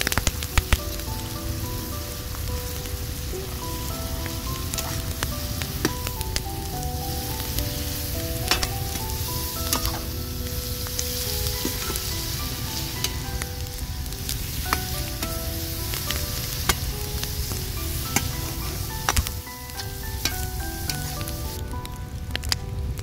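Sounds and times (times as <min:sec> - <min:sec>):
vegetables frying sizzle: 0:00.0 - 0:23.0.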